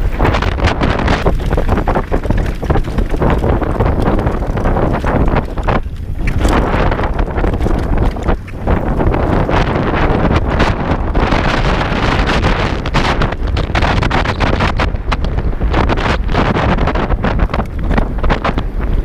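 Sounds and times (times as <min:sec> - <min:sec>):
motorcycle knocks and rattles: 0:00.0 - 0:19.0
wind buffeting microphone: 0:00.0 - 0:19.0.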